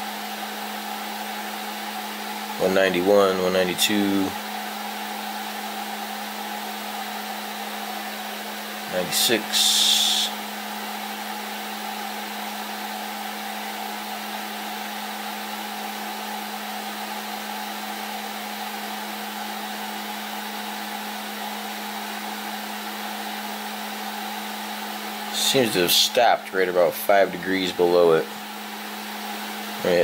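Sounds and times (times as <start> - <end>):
fan whirring: 0.0 - 30.0.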